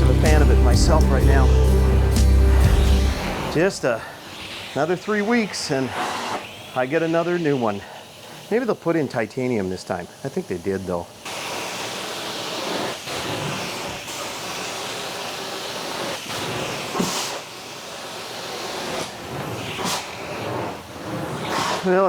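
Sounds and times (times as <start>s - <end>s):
carpet extraction wand hissing: 0.0s - 22.0s.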